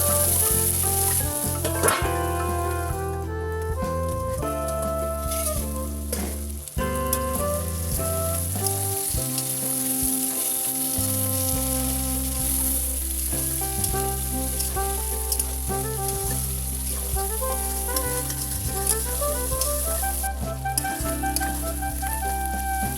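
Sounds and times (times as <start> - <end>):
curry sizzling in a pan: 0.0 - 2.8, 6.3 - 22.9
background music: 0.0 - 22.9.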